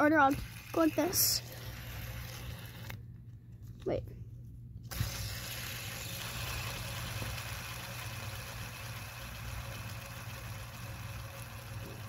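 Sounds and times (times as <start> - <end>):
plastic fidget spinner spinning: 0.0 - 3.2, 4.8 - 12.0.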